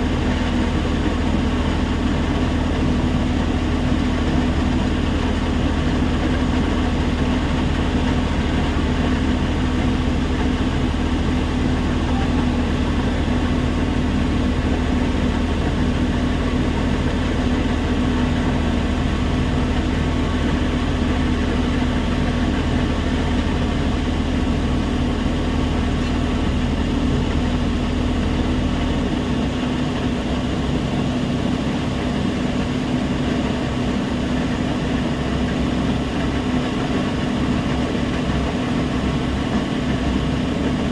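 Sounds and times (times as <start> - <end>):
heavy machinery humming: 0.0 - 40.9.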